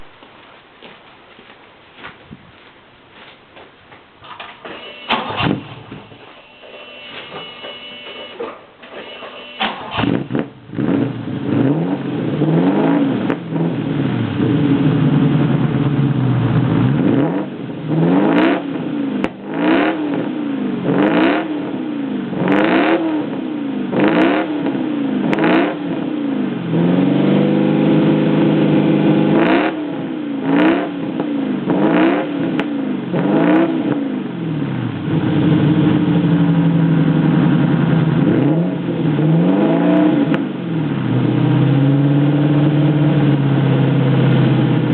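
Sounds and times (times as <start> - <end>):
car engine revving: 4.2 - 44.9.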